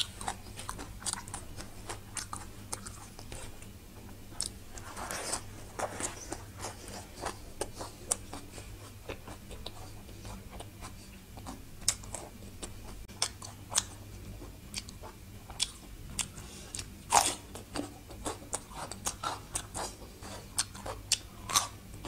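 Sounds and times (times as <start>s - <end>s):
chewing crunchy vegetables: 0.0s - 22.0s
faint low hum: 0.0s - 22.0s.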